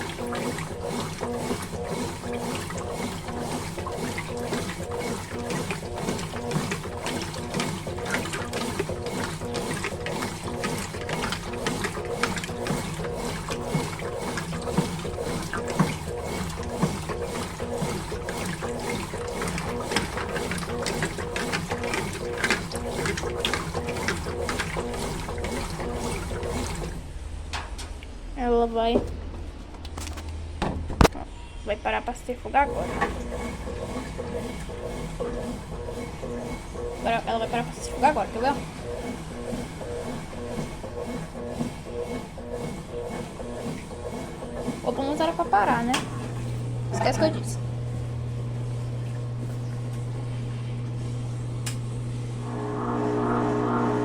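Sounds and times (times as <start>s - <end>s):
water and clothes swishing: 0.0s - 27.0s, 32.5s - 51.2s
washing machine motor hum: 0.0s - 31.1s, 31.7s - 54.0s.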